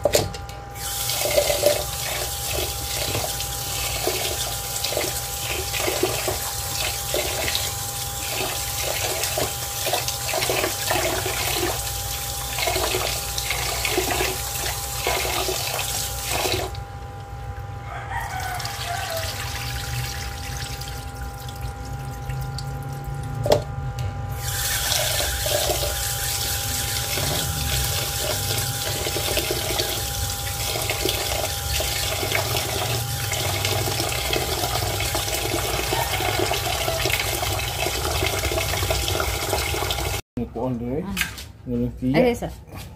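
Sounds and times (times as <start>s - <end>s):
tap water running into pot: 0.8s - 16.8s, 18.3s - 22.7s, 24.4s - 40.2s.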